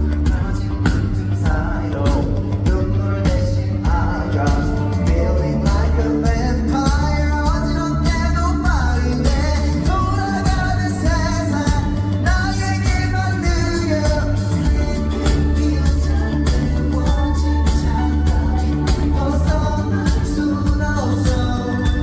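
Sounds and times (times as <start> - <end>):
backing track with heavy bass beat: 0.0 - 22.0
person singing pop melody: 0.0 - 22.0.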